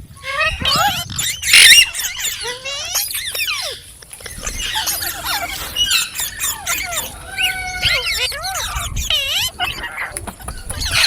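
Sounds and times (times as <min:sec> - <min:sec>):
parakeet chattering and whistling: 0:00.2 - 0:11.0.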